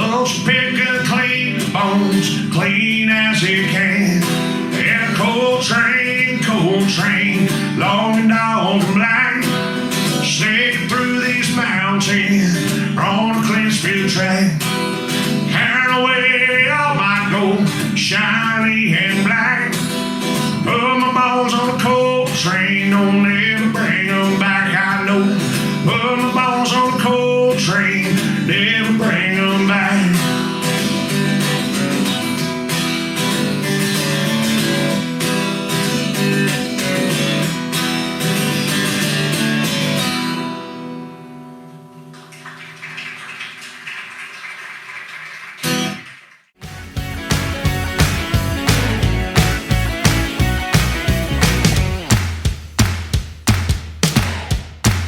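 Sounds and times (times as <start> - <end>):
strummed acoustic guitar: 0.0 - 43.9, 45.6 - 55.0.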